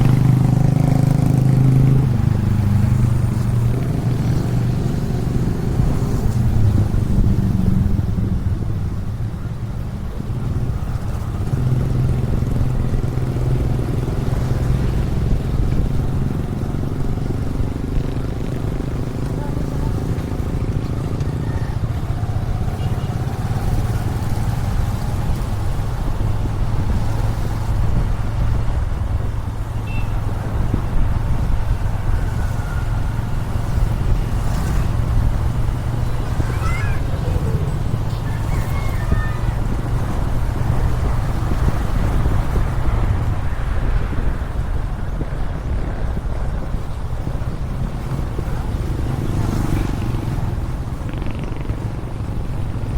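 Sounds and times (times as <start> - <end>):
motorcycle engine rumble: 0.0 - 52.9
wind noise on microphone: 0.0 - 52.9.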